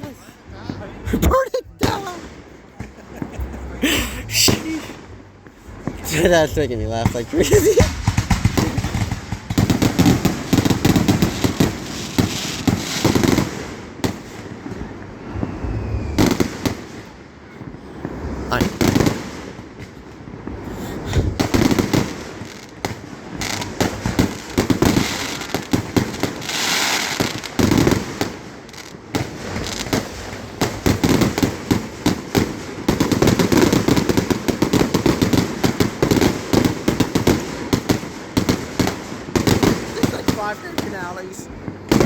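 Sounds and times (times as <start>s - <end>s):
firework hiss: 0.0s - 42.0s
fireworks bursting and crackling: 0.0s - 42.0s.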